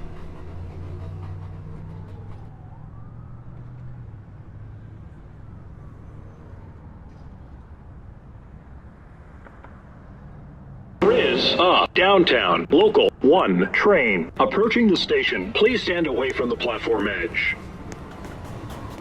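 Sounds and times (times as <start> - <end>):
subway train rumbling: 0.0 - 9.1, 10.2 - 19.0.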